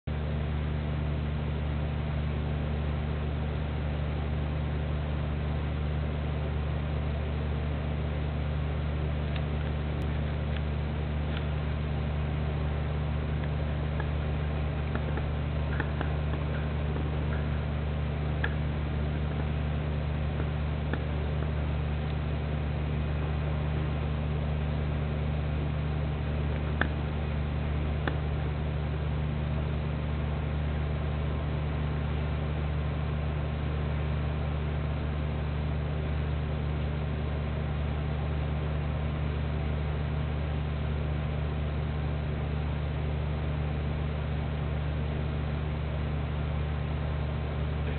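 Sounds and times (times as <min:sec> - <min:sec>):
steady low hum: 0:00.0 - 0:47.9
constant hiss: 0:00.1 - 0:47.9.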